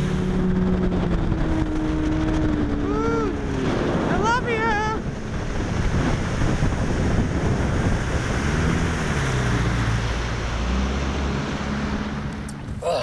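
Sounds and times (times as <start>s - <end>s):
wind across microphone: 0.0s - 12.8s
outboard motor running: 0.0s - 13.0s.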